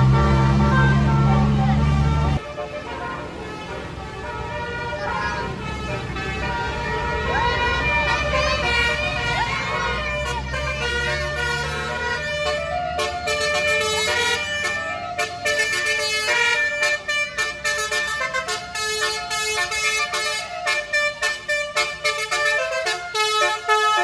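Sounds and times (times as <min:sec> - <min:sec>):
bus engine rumble: 0:00.0 - 0:24.0
bus musical horn playing a tune: 0:00.0 - 0:24.0.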